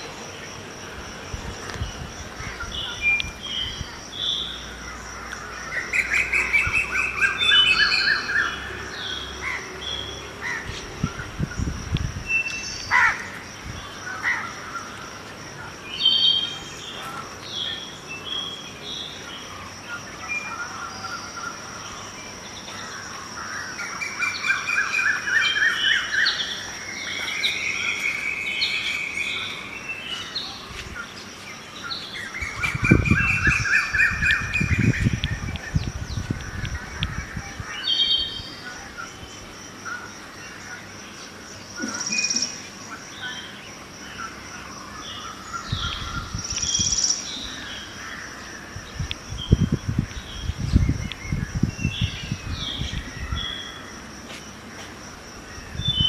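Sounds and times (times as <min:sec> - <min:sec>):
birds chirping and calling: 0:00.0 - 0:54.1, 0:54.8 - 0:56.0.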